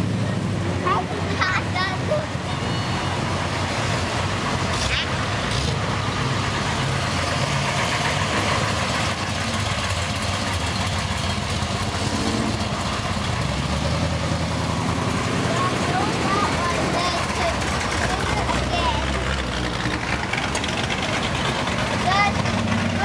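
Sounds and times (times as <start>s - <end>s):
car engines at low speed: 0.0s - 23.0s.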